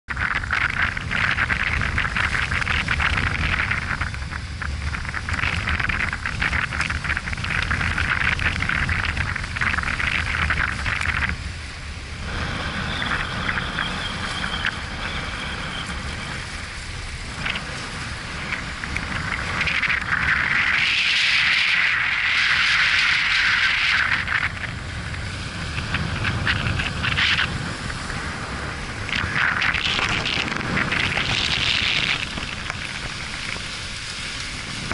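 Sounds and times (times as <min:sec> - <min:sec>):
wind rumbling on microphone: 0:00.0 - 0:34.9
surf splashing against rocks: 0:00.1 - 0:34.9.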